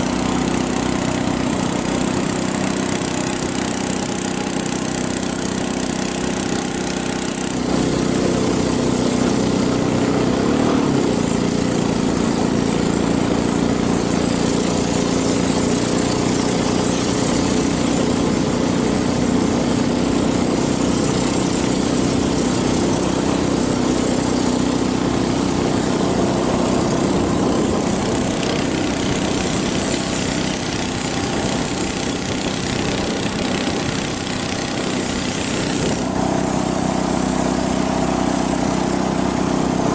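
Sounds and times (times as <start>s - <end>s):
outboard boat engine: 0.0s - 39.9s.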